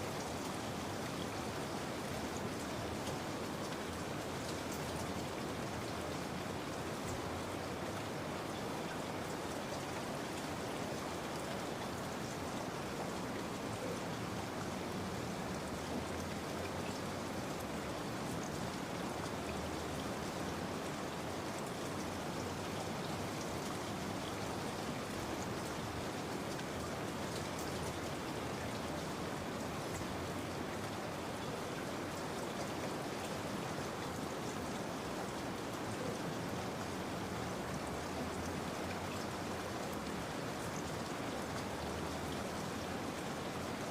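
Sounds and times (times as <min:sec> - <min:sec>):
steady rain patter: 0:00.0 - 0:43.9.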